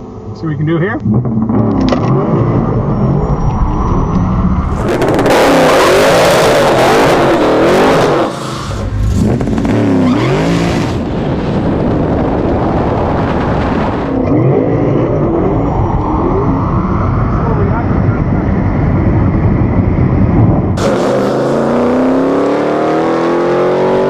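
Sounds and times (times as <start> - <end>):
car engine at full throttle: 0.0 - 24.0
wind and road noise: 0.0 - 24.0.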